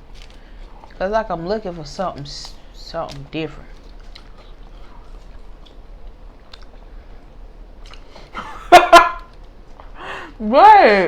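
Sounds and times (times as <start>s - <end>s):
quiet chewing: 0.0s - 8.5s, 9.1s - 10.0s.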